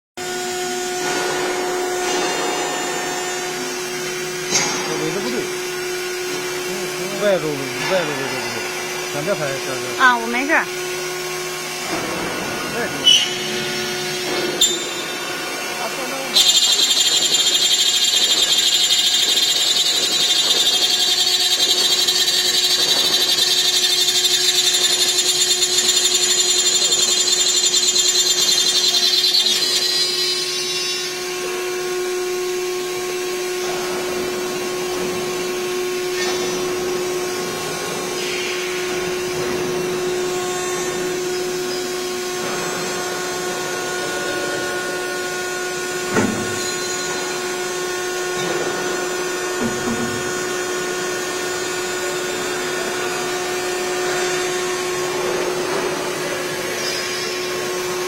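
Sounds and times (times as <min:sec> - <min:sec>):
high-pitched spindle whine: 0:00.2 - 0:11.5, 0:12.8 - 0:48.4
low machine hum: 0:00.2 - 0:58.0.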